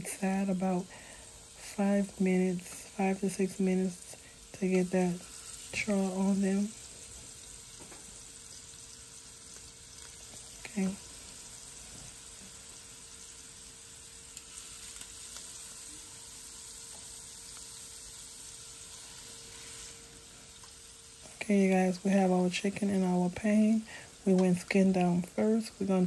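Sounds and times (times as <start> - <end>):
chicken sizzling in frying pan: 0.0 - 26.0.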